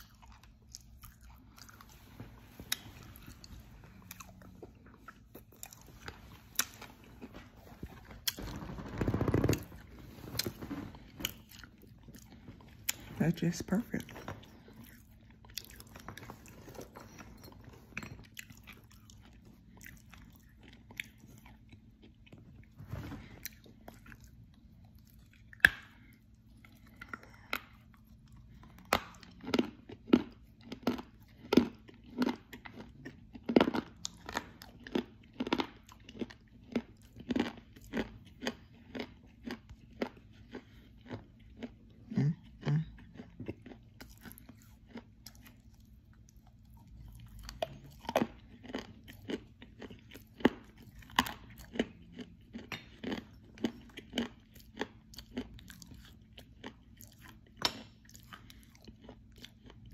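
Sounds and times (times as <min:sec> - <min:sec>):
crunchy chewing: 0:00.0 - 0:13.2, 0:14.0 - 0:59.9.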